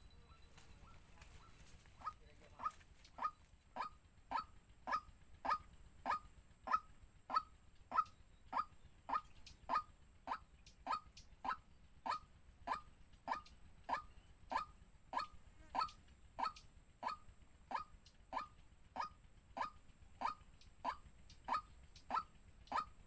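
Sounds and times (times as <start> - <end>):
bird calling: 0.0 - 23.0.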